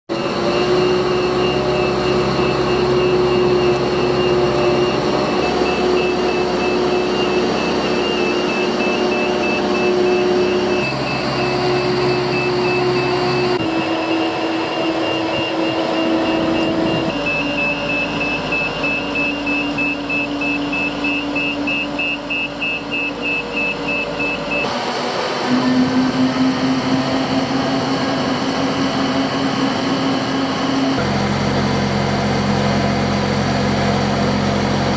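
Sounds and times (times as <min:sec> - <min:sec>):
high-pitched pulsing warning beep: 0:00.1 - 0:31.1
engine running steadily: 0:00.1 - 0:34.9.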